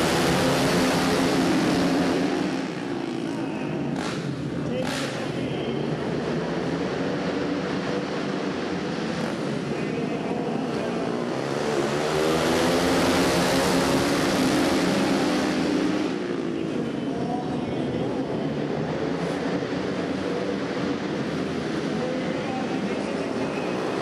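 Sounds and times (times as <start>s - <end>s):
racing motorcycle engines revving high: 0.0s - 24.0s.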